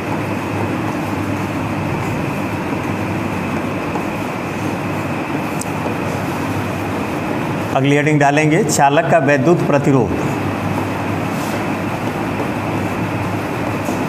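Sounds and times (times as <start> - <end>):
steady rumbling: 0.0 - 14.0.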